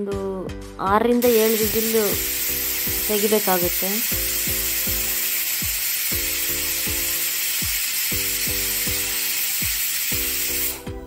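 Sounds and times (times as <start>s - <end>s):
background music: 0.0s - 11.0s
pressure cooker steam hissing: 1.2s - 11.0s.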